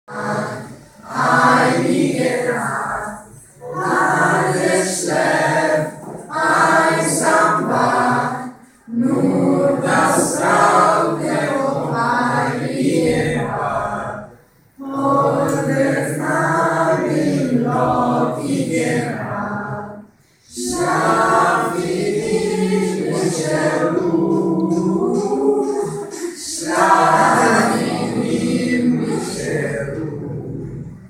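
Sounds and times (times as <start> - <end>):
group singing without instruments: 0.1 - 31.0.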